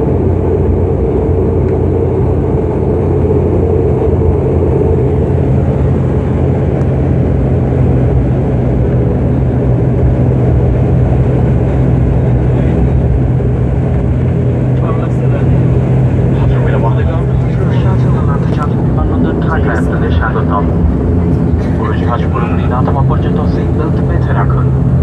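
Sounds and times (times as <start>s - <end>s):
turboprop engines droning in cabin: 0.0s - 25.0s.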